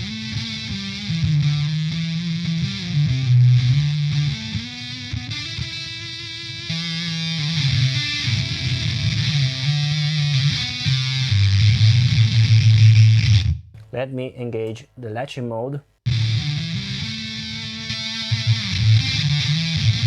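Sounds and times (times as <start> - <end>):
fuzzed electric guitar notes: 0.0 - 13.6, 16.0 - 20.0.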